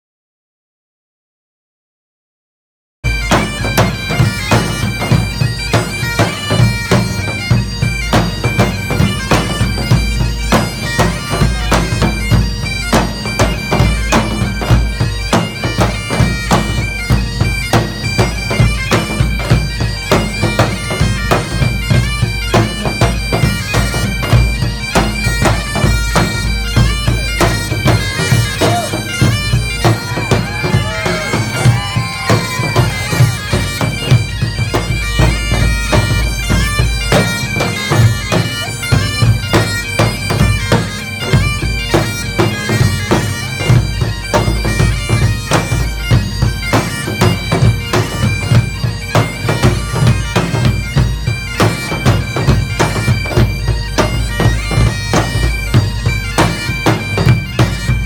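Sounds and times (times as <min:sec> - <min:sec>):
drums beating: 0:03.0 - 0:58.0
bagpipes playing: 0:03.1 - 0:58.0.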